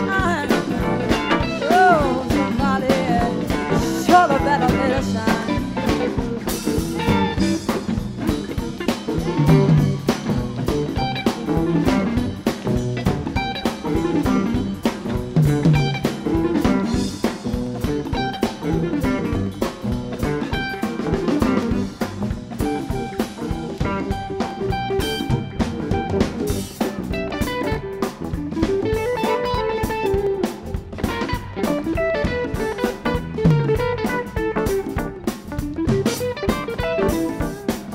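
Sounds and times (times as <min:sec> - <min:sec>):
bass guitar: 0:00.0 - 0:37.9
drum kit: 0:00.0 - 0:37.9
guitar lines: 0:00.0 - 0:37.9.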